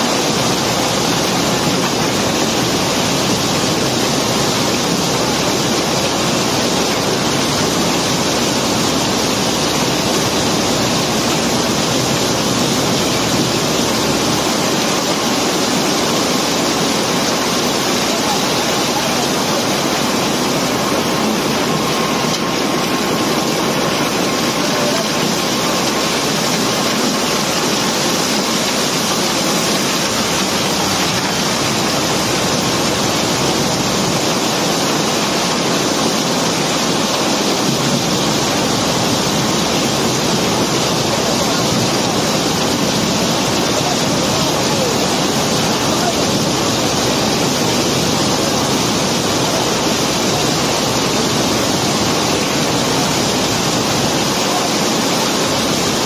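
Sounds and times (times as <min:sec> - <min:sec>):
rock pouring down a chute: 0:00.0 - 0:56.0.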